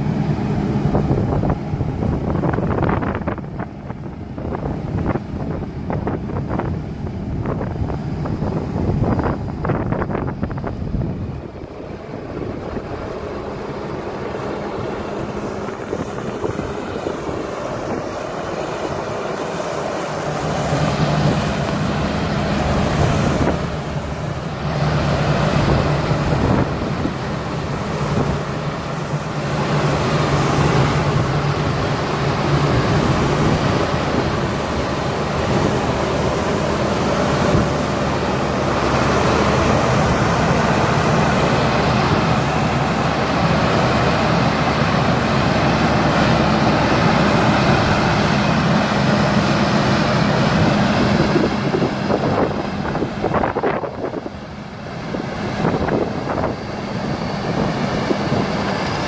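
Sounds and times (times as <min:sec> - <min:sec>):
tractor diesel engine running: 0:00.0 - 0:59.0
wind buffeting microphone: 0:00.0 - 0:59.0.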